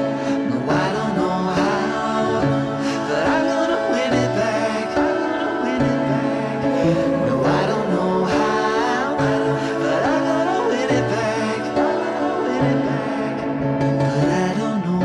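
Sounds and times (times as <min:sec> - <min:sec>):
background music with melody: 0:00.0 - 0:15.0.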